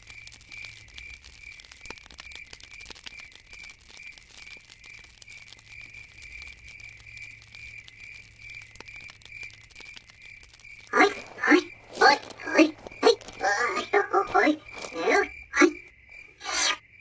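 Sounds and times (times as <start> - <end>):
crackling clicks: 0.0 - 15.8.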